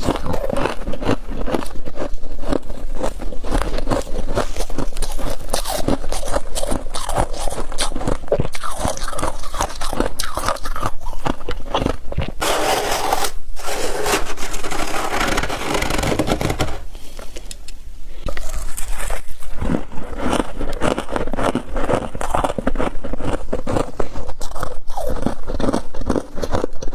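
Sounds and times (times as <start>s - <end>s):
frost crunching and squeaking: 0.0s - 16.8s, 18.3s - 26.9s.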